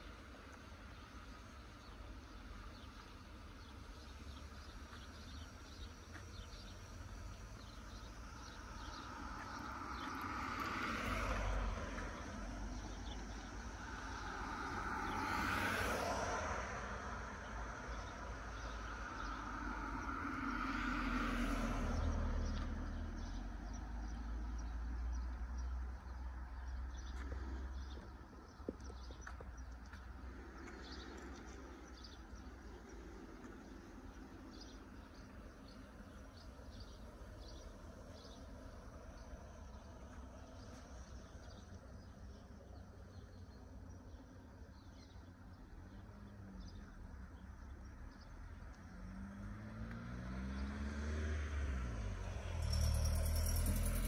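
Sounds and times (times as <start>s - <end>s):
cars passing: 0.0s - 43.9s, 45.3s - 54.0s.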